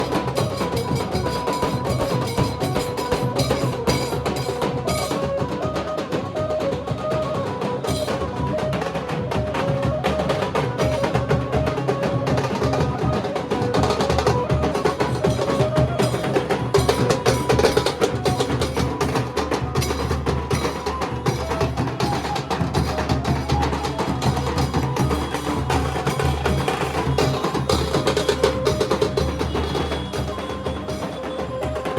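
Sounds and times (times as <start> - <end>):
dhol drumming: 0.0 - 31.9.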